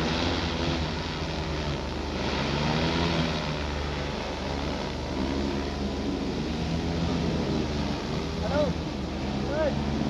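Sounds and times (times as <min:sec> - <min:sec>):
drone propellers humming: 0:00.0 - 0:10.0.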